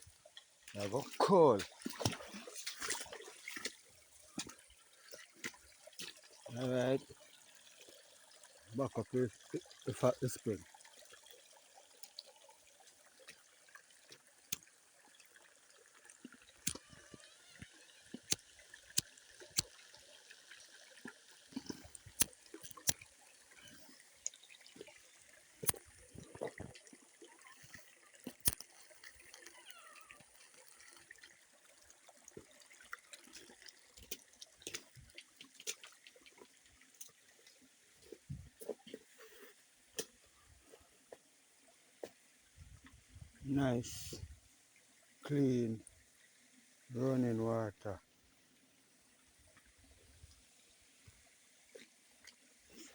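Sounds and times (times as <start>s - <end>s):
stream trickling over rocks: 0.0s - 52.9s.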